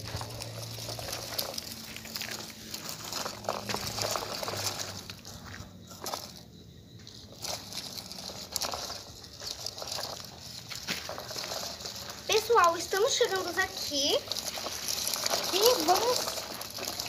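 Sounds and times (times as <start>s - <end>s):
toy truck wheels crunching dirt: 0.0s - 17.0s.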